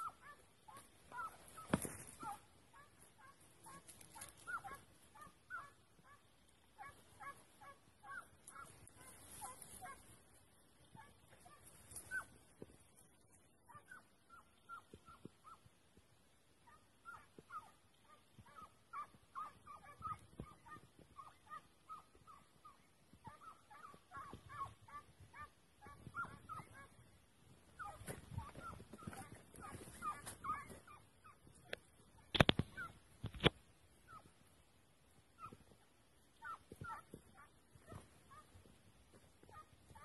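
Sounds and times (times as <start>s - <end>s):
hounds baying: 0.0s - 15.7s, 16.6s - 33.0s, 34.0s - 34.4s, 35.3s - 40.0s.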